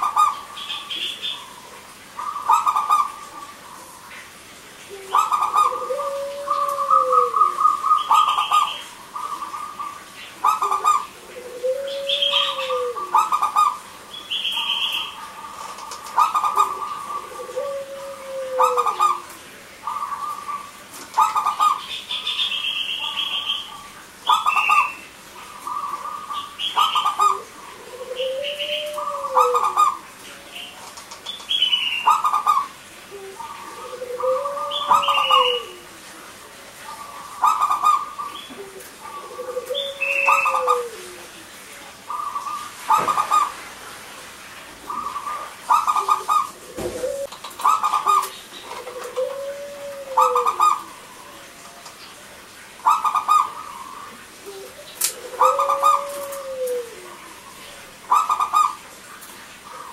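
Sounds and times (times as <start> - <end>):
doves cooing: 0.0 - 4.2, 4.8 - 43.9, 44.7 - 52.0, 52.8 - 59.9.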